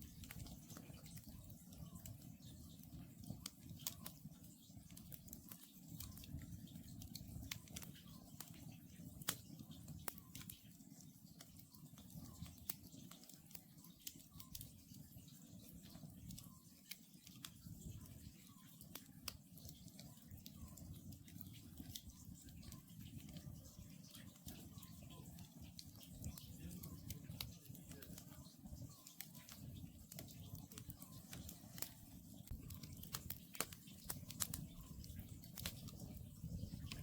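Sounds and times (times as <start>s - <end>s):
campfire crackling and popping: 0.0s - 37.0s
low fire rumble: 0.0s - 37.0s.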